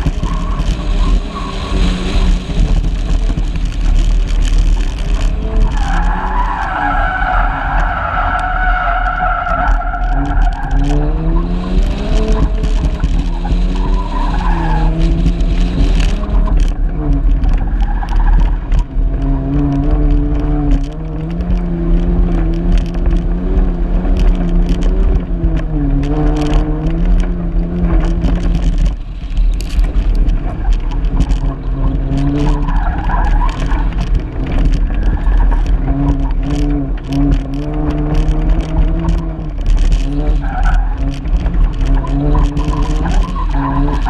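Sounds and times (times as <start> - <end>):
car engine revving: 0.0 - 44.0
gravel clicking against car body: 0.0 - 44.0.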